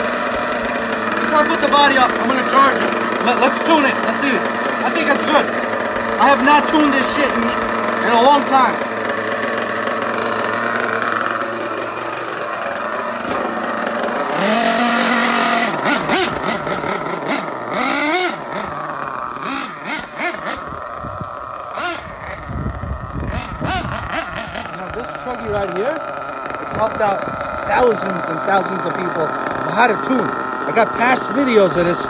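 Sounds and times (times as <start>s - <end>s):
small nitro engine revving: 0.0s - 32.0s.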